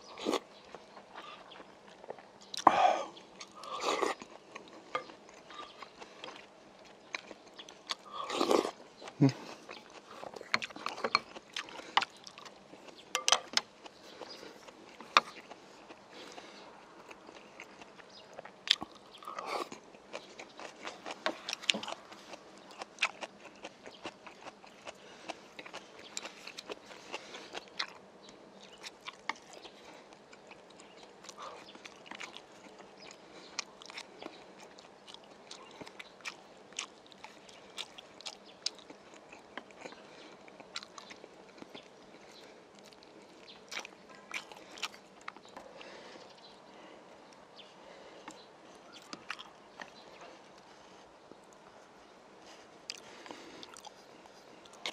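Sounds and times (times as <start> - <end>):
man chewing food: 0.0 - 54.9.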